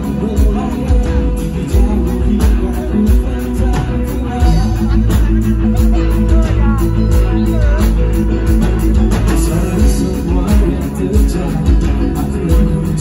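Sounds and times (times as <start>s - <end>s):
bass guitar: 0.0s - 13.0s
drum beat: 0.0s - 13.0s
electric guitar: 0.0s - 13.0s
man singing: 0.0s - 13.0s.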